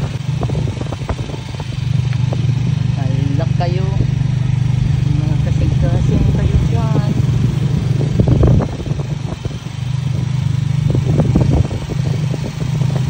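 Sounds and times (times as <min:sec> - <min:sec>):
vehicle engine running: 0:00.0 - 0:13.0
vehicle rattling and knocks: 0:00.0 - 0:13.0.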